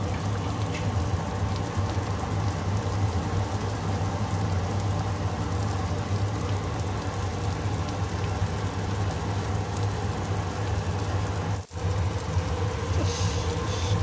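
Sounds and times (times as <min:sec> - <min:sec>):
soup boiling in a pot: 0:00.0 - 0:14.0.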